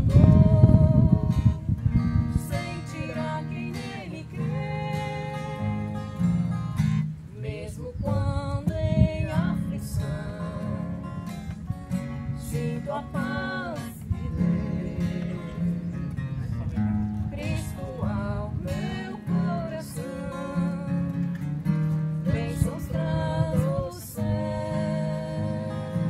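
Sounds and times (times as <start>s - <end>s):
woman singing a hymn: 0.0s - 6.6s, 7.3s - 16.1s, 17.2s - 21.3s, 22.2s - 26.0s
acoustic guitar strumming: 0.0s - 26.0s.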